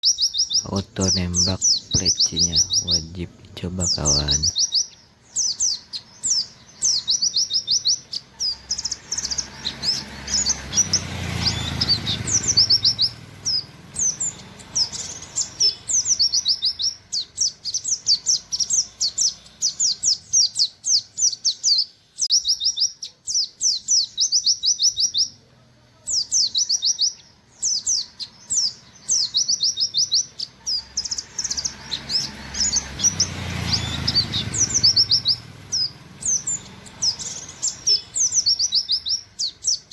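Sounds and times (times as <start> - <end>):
bird singing rapid high notes: 0.0 - 25.4, 26.1 - 39.9.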